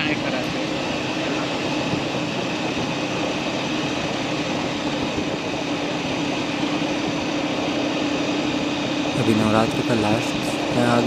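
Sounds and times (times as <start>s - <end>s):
motorcycle engine hum: 0.0s - 11.0s.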